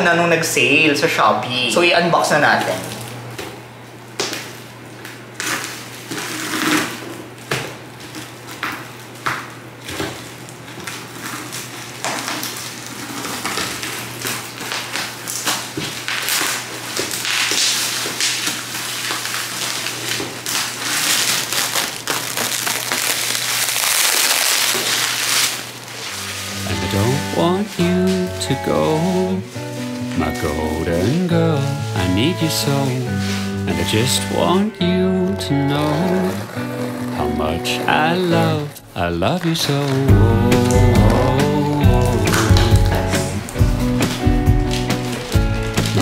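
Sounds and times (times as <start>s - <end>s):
plastic wrap crinkling: 2.2s - 46.0s.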